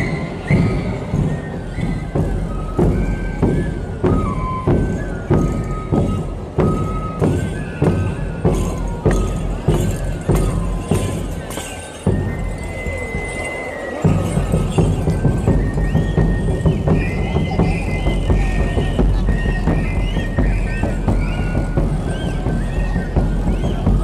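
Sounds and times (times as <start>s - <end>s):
drum beating steadily: 0.0s - 24.0s
shrill cane flute melody: 0.0s - 24.0s.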